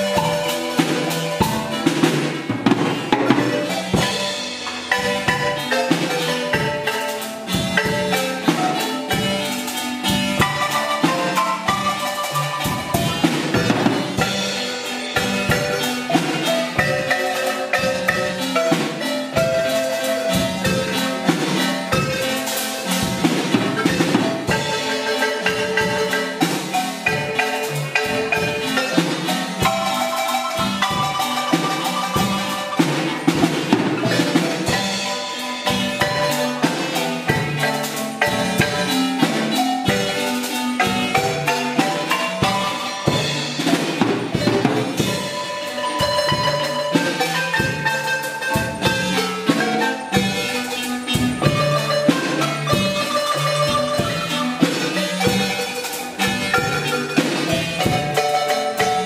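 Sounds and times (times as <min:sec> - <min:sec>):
marimba played with mallets: 0:00.0 - 0:59.0.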